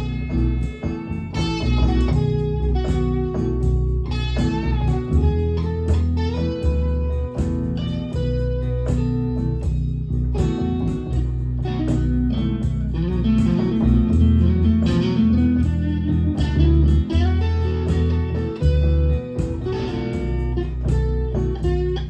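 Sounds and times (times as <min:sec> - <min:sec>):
deep bass notes: 0:00.0 - 0:22.0
guitar instrumental: 0:00.0 - 0:22.0.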